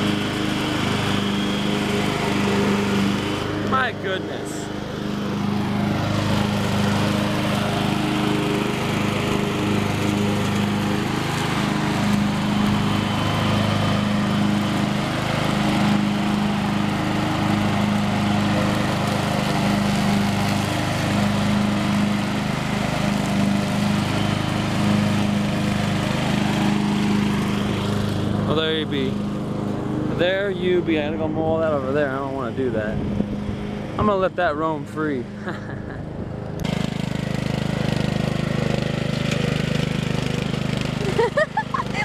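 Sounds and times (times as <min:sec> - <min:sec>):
riding lawn mower engine running: 0:00.0 - 0:42.0.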